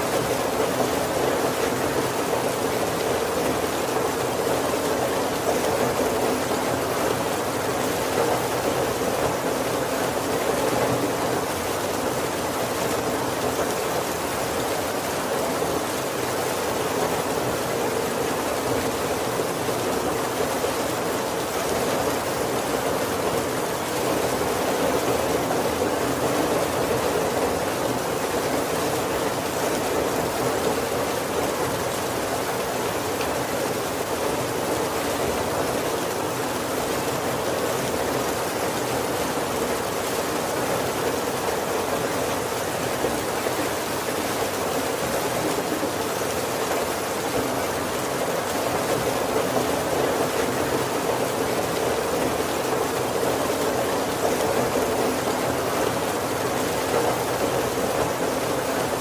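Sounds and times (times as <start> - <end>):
heavy rain on a wooden roof: 0.0 - 59.0.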